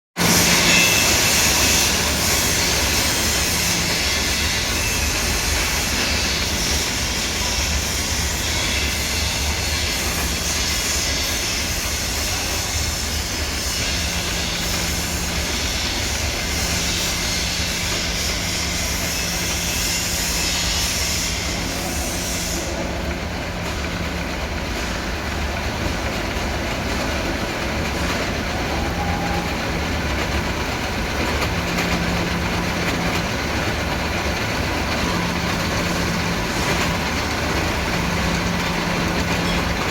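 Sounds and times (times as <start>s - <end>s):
lathe running: 0.2s - 39.9s.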